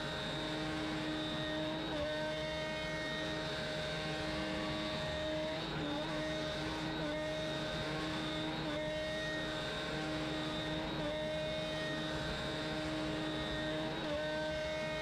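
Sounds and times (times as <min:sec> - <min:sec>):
router spindle whining: 0:00.0 - 0:15.0.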